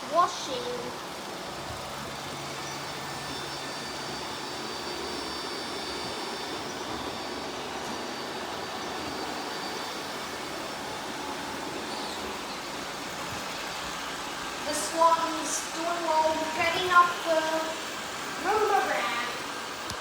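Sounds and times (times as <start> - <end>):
high-pitched whine: 0.0 - 20.0
robot vacuums whirring: 0.0 - 20.0.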